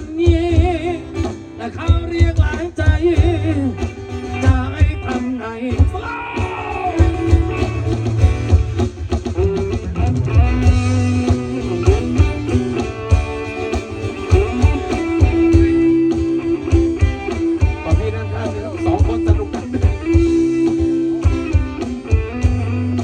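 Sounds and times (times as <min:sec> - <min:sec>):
bass: 0:00.0 - 0:23.0
electric guitar playing: 0:00.0 - 0:23.0
steady drum beat: 0:00.0 - 0:23.0.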